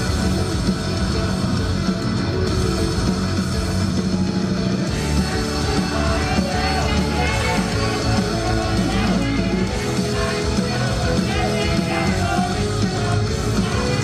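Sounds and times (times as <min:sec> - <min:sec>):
rock-style pop song performed live: 0:00.0 - 0:14.0.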